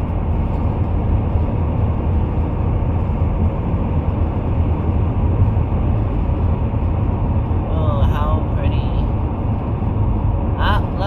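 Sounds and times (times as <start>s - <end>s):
road and engine noise in cab: 0.0s - 11.0s.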